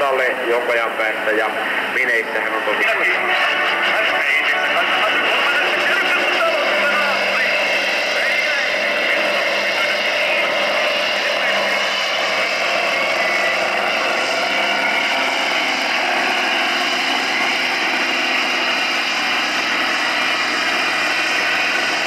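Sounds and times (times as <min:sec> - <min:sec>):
tractor diesel engine at full throttle: 0:00.0 - 0:22.0.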